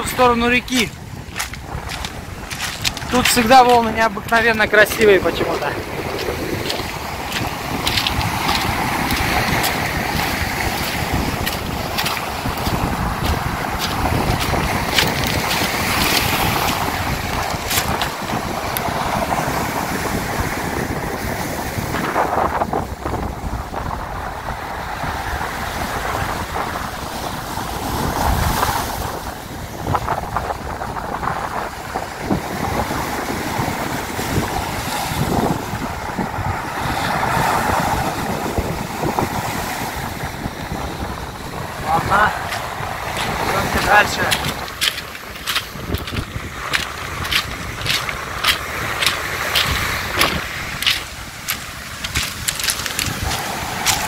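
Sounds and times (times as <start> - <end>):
surf breaking on pebble beach: 0.0 - 54.0
wind buffeting microphone: 0.0 - 54.0.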